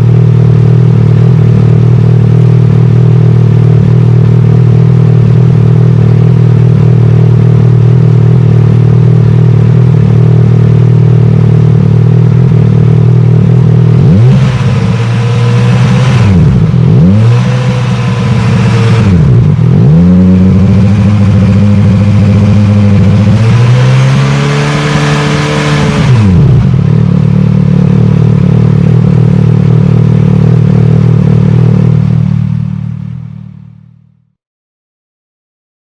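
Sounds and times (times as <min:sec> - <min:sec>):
scooter engine idling and revving: 0:00.0 - 0:34.0.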